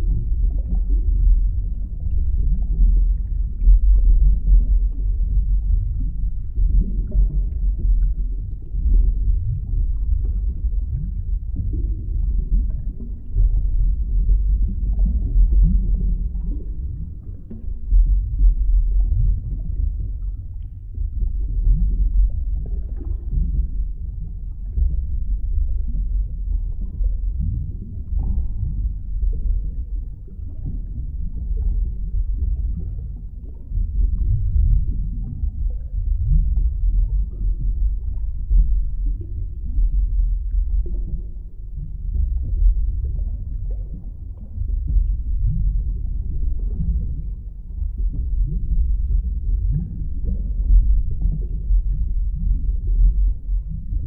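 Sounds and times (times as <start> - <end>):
deep underwater rumble: 0.0 - 54.0.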